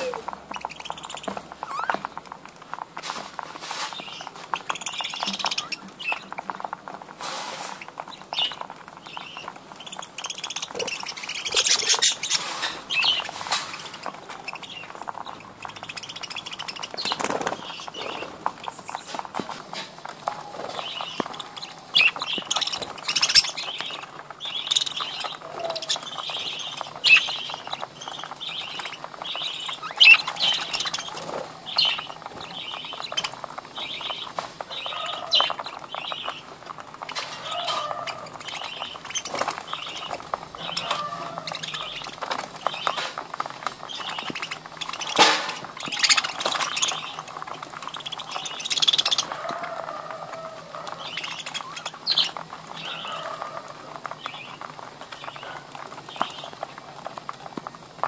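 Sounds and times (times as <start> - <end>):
budgerigars chirping: 0.0 - 2.3, 3.8 - 6.7, 7.5 - 19.6, 20.2 - 56.8
wings flapping: 0.0 - 57.8.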